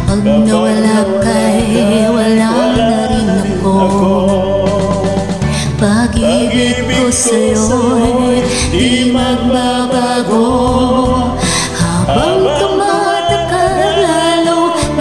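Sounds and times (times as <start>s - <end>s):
karaoke backing track: 0.0s - 15.0s
man and woman singing duet: 0.0s - 15.0s.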